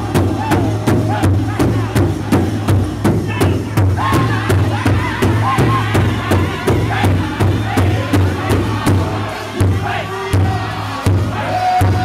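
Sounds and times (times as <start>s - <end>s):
large drum beating: 0.0s - 12.0s
men singing high-pitched: 0.0s - 12.0s.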